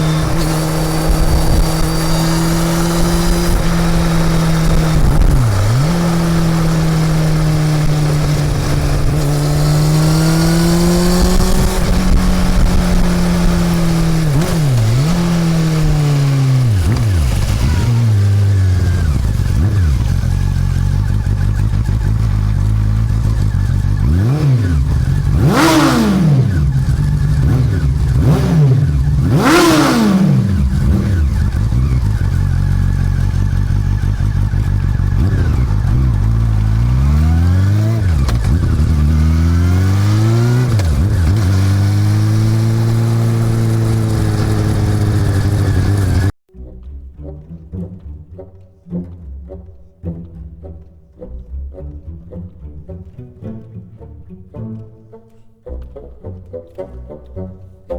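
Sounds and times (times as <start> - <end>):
motorcycle engine changing gears: 0.0 - 46.4.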